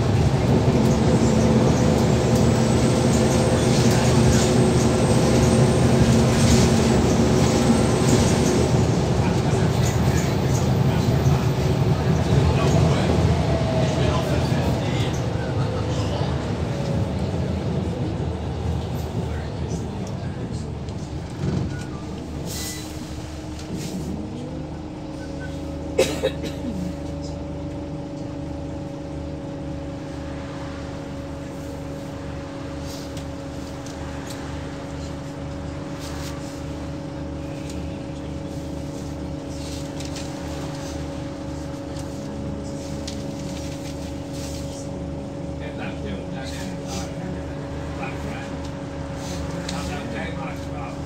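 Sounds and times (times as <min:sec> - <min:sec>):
bus engine drone: 0:00.0 - 0:51.0.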